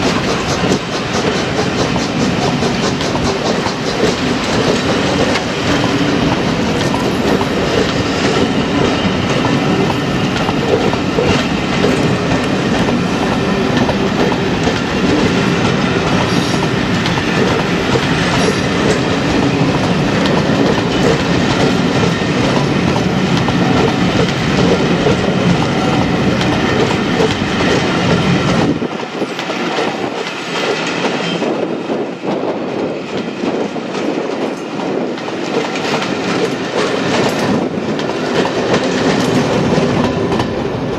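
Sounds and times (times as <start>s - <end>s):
train running past: 0.0s - 40.9s.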